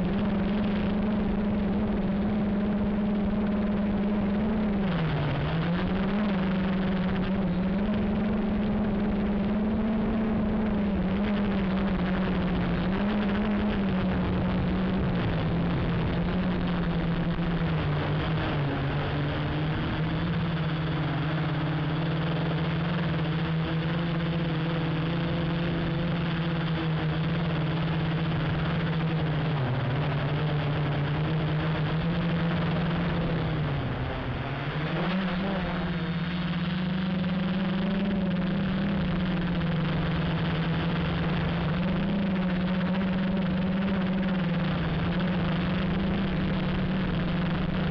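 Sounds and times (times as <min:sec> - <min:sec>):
drone motors and propellers buzzing: 0:00.0 - 0:47.9.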